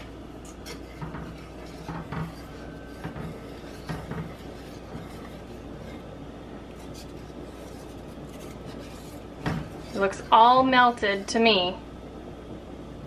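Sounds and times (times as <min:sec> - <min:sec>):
whisk scraping a metal saucepan: 0:00.0 - 0:11.4.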